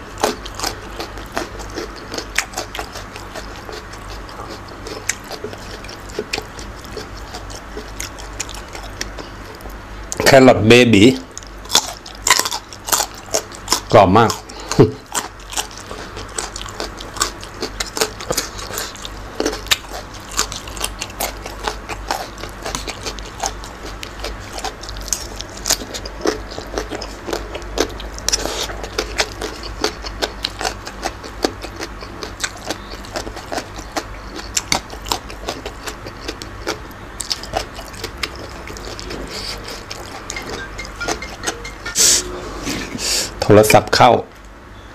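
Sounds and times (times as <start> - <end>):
chewing and crunching vegetables: 0.0 - 42.0.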